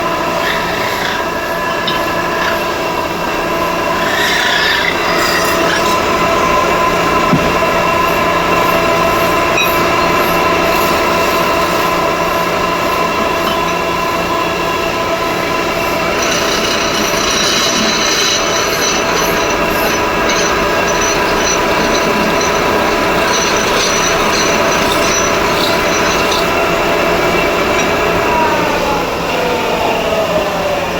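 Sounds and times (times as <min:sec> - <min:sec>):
metal-on-metal squeal: 0:00.0 - 0:28.9
metal spinning lathe whine: 0:00.0 - 0:30.9.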